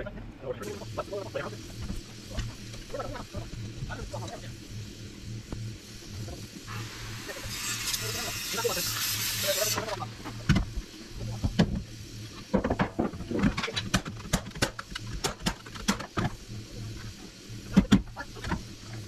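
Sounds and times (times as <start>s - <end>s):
steady low hum: 0.0s - 19.0s
hiss: 0.6s - 19.0s.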